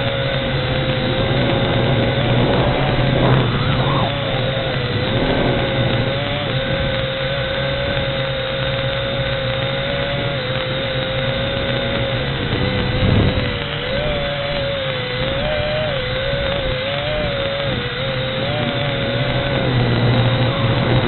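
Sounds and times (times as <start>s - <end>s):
quadcopter propellers whining: 0.0s - 21.0s.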